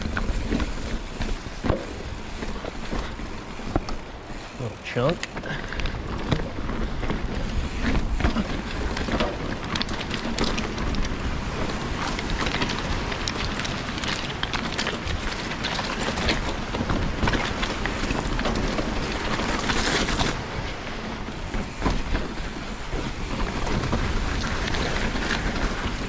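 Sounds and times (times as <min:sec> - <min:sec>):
wind buffeting microphone: 0:00.0 - 0:04.6, 0:05.2 - 0:26.0.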